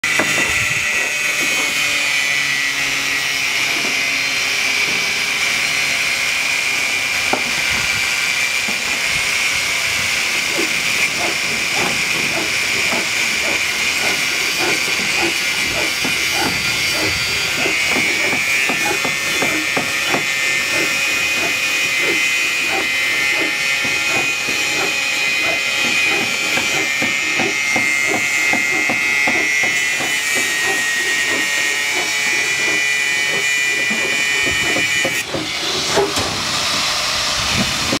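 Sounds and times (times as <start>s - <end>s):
angle grinder cutting steel: 0.0s - 38.0s.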